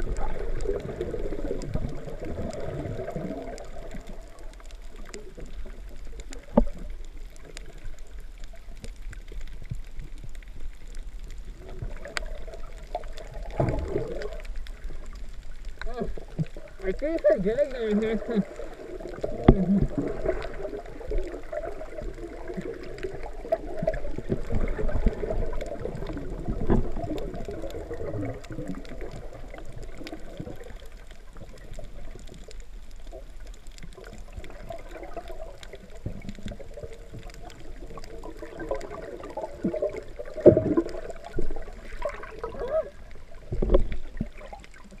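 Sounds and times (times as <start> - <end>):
faint clicks: 0.0 - 45.0
muffled underwater sloshing: 0.0 - 45.0.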